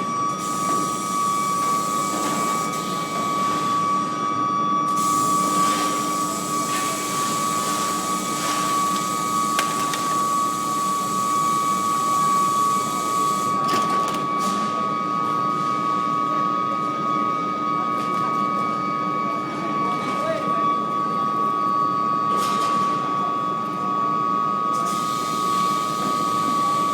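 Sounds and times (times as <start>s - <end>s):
furnace high-pitched whine: 0.0s - 26.9s.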